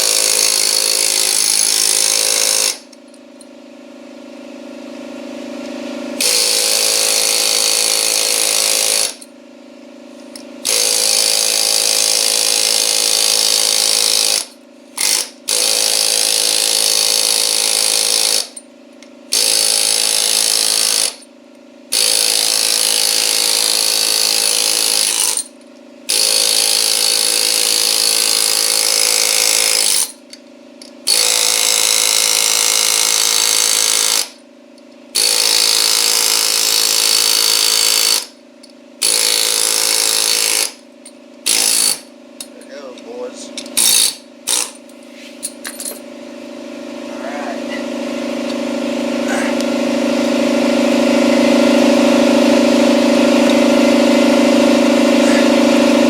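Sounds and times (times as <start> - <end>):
pneumatic air hammer: 0.0 - 3.2, 5.6 - 9.4, 10.1 - 18.7, 19.3 - 21.3, 21.9 - 42.9, 43.6 - 45.9, 49.2 - 56.0.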